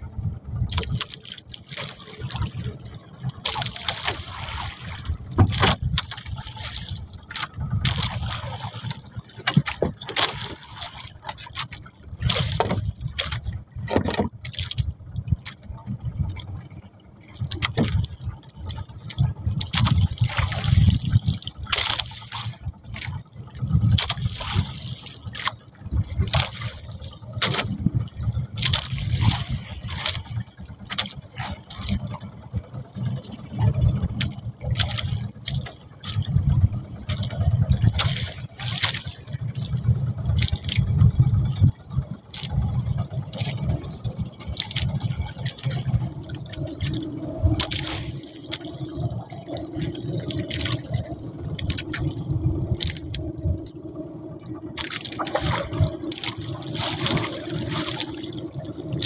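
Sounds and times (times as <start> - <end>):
water sloshing around boat: 0.0 - 59.0.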